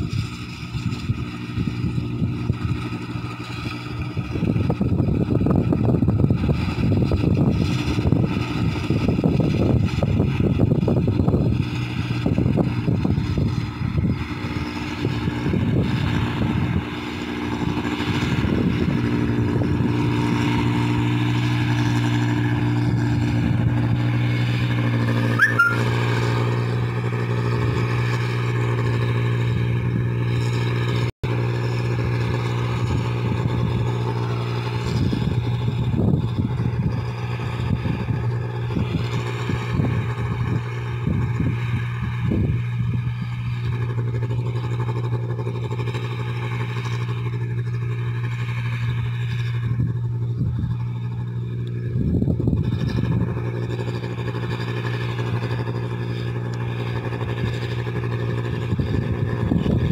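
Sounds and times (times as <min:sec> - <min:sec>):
harvester engine humming: 0:00.0 - 0:59.9.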